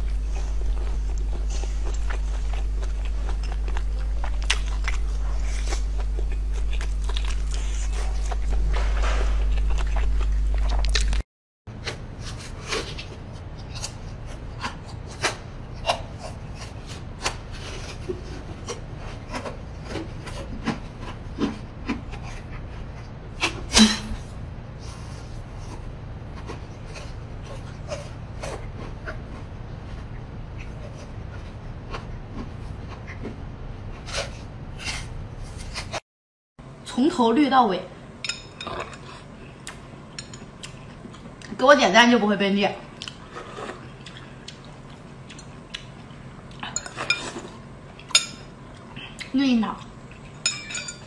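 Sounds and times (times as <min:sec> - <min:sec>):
person chewing food: 0:00.0 - 0:11.2, 0:11.8 - 0:24.3, 0:24.9 - 0:35.0, 0:38.0 - 0:41.6, 0:42.9 - 0:51.0
steady low hum: 0:00.0 - 0:36.0, 0:36.6 - 0:51.0.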